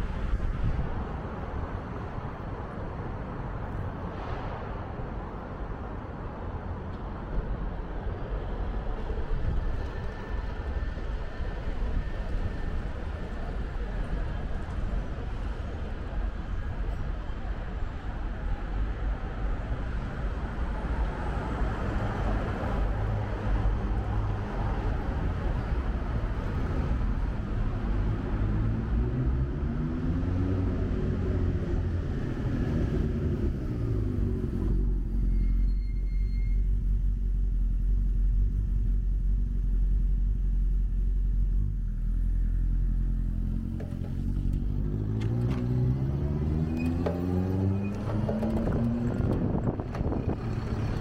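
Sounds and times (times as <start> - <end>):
road traffic engines: 0.0 - 51.0.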